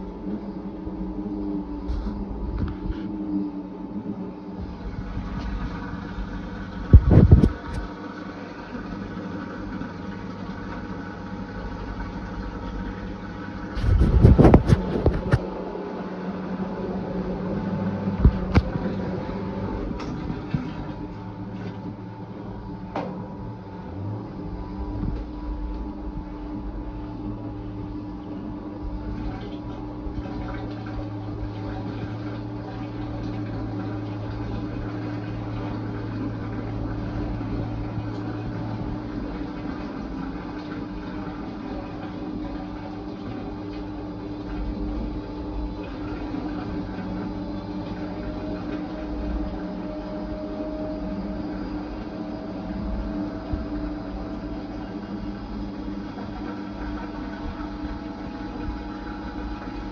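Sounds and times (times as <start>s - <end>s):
washing machine motor hum: 0.0s - 59.9s
water moving in washing machine: 0.0s - 59.9s.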